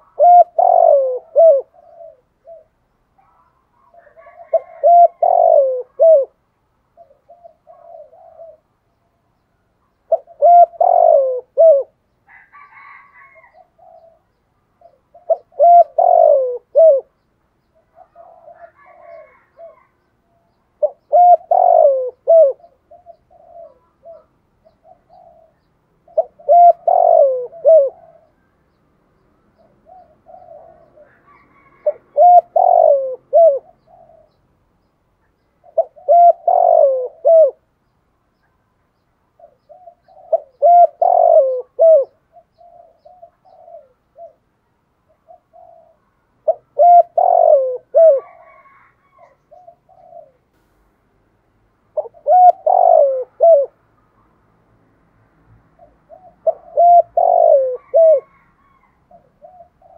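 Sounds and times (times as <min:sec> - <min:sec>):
dove cooing: 0:00.0 - 0:09.0, 0:09.9 - 0:28.6, 0:29.5 - 0:34.6, 0:35.6 - 0:37.7, 0:39.3 - 0:50.5, 0:51.9 - 0:53.8, 0:55.7 - 0:59.9.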